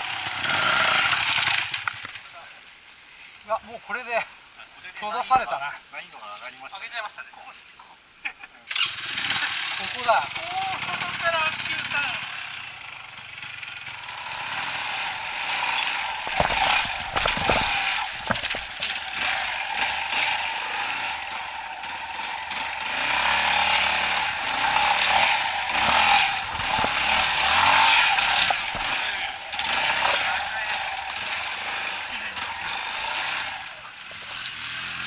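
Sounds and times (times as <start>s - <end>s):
motorcycle engine revving: 0.0s - 2.2s, 8.7s - 35.0s.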